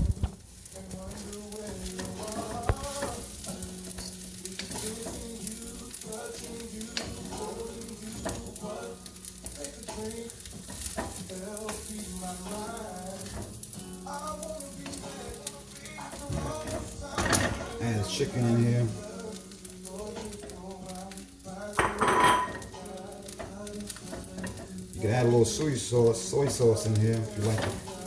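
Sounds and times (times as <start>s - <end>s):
rice sizzling in a hot pan: 0.0s - 28.0s
spatula scraping a pan: 0.7s - 28.0s.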